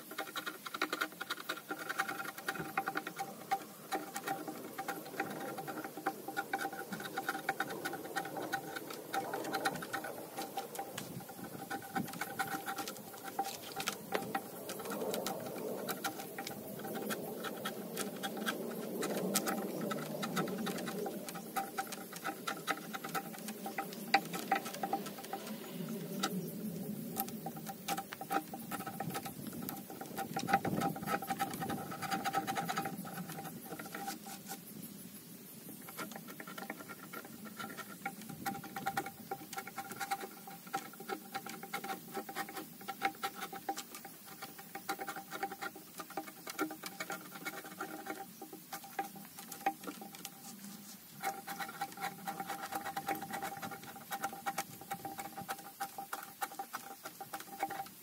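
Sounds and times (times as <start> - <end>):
hand tool scraping wood: 0.0 - 34.8, 35.7 - 58.0
small clicks and scrapes: 0.0 - 58.0.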